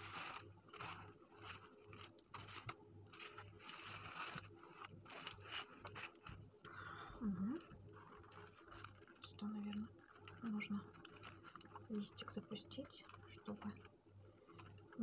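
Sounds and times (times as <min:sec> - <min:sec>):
soft scraping and rustling: 0:00.0 - 0:06.6, 0:07.6 - 0:15.0.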